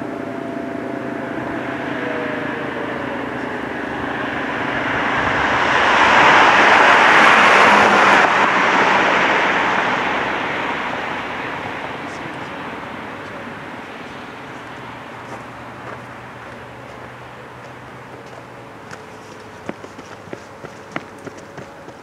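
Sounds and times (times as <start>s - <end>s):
siren winding down: 0.0s - 19.0s
vehicle passing: 0.0s - 22.0s.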